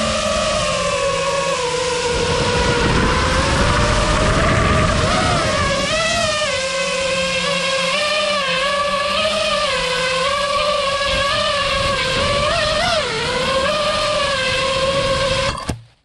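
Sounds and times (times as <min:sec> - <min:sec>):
quadcopter motors whining: 0:00.0 - 0:15.8.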